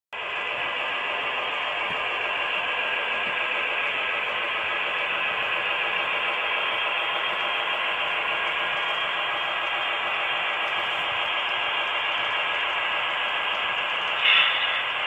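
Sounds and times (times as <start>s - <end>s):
model train running: 0.2s - 15.0s.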